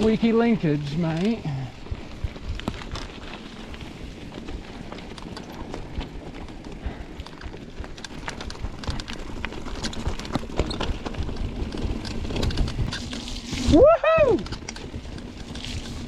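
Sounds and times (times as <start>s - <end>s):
bike rattling over bumps: 0.0s - 16.0s
bike tyres rolling on dirt: 0.0s - 16.0s.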